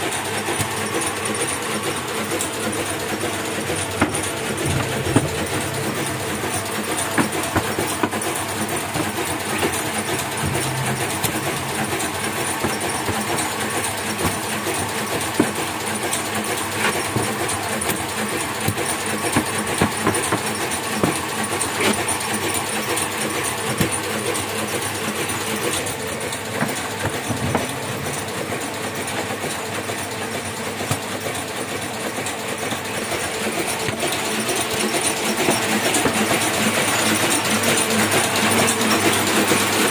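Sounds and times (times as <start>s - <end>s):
printing press clattering: 0.0s - 39.9s.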